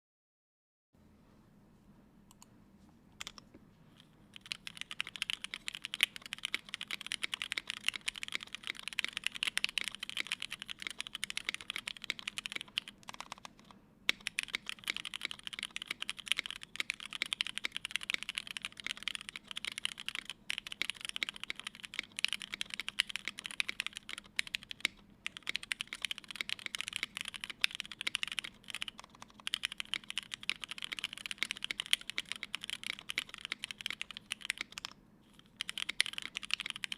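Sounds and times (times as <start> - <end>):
mechanical keyboard typing: 4.4 - 36.9.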